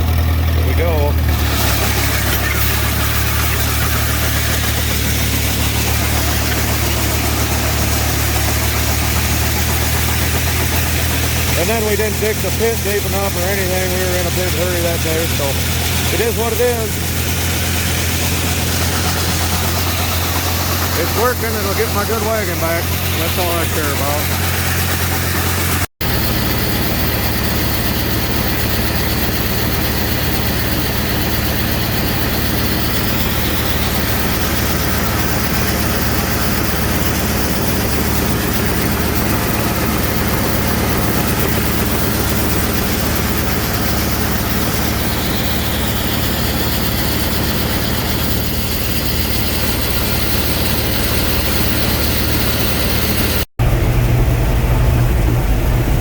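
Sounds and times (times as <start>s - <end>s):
heavy farm machinery running: 0.0s - 56.0s.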